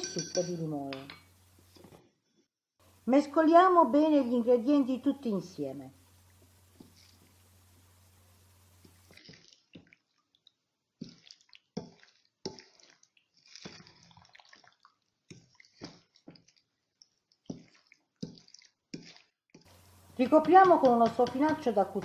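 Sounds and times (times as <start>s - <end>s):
wet squelches of stirring: 0.0s - 2.2s, 2.8s - 22.0s.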